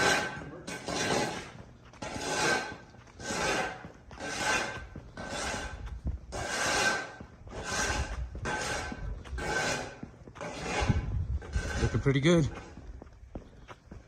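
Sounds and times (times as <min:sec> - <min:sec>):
hand tool rasping rough surface: 0:00.0 - 0:12.7.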